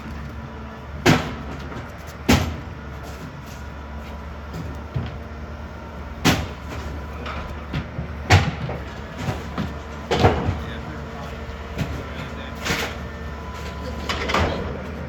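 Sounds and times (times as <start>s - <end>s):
truck idling: 0.0s - 15.0s.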